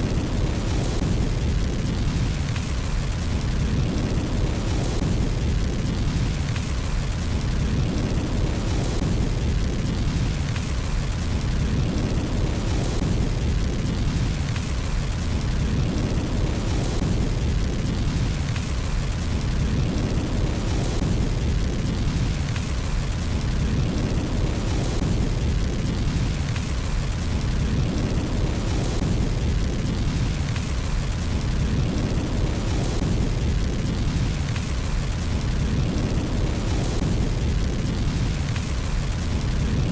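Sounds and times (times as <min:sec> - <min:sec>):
fire roaring and crackling: 0:00.0 - 0:39.9.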